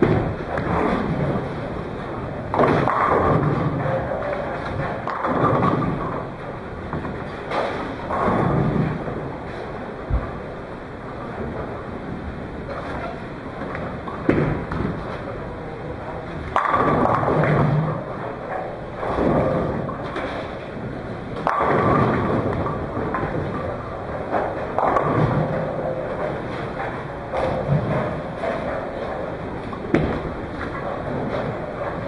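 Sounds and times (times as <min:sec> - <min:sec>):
bowling balls rumbling down lanes: 0:00.0 - 0:32.0
bowling pins clattering: 0:00.0 - 0:32.0.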